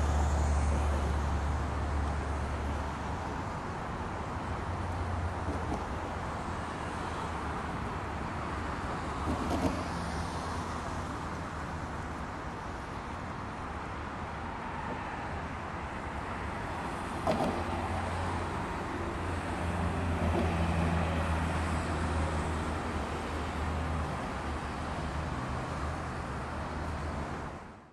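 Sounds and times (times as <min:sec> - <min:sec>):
tyre and road noise: 0:00.0 - 0:27.7.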